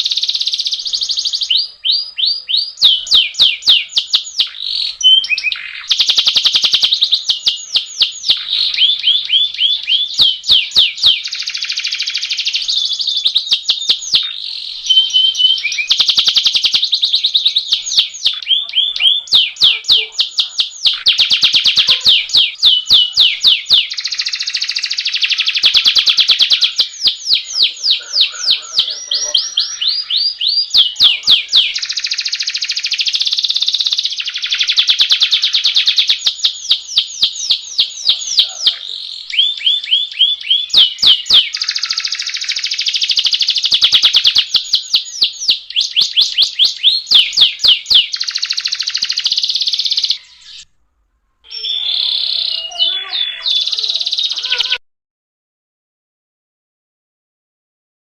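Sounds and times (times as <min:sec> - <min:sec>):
canary singing: 0:00.0 - 0:50.7, 0:51.4 - 0:54.8.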